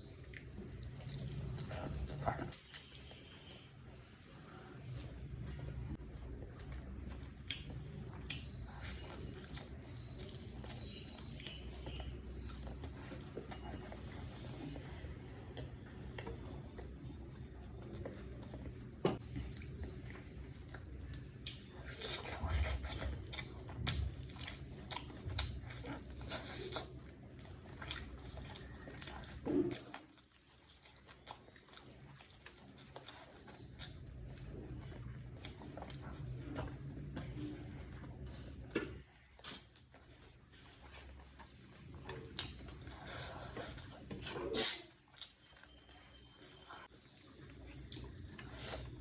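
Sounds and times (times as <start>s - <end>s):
close-miked chewing: 0.0s - 49.0s.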